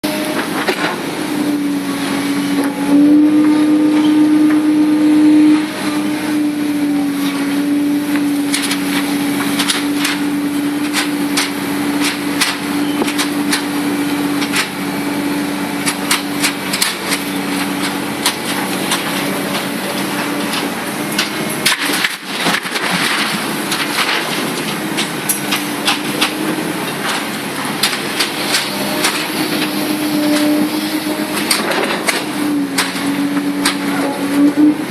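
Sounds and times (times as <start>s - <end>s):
excavator engine humming: 0.0s - 34.9s.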